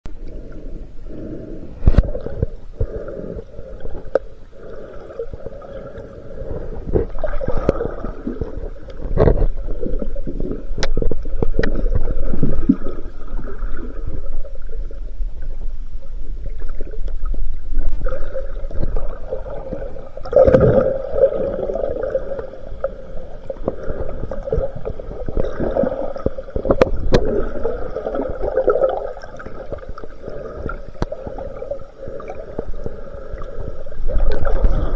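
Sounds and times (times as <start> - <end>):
water gurgling underwater: 3.8 - 32.7, 34.0 - 34.9.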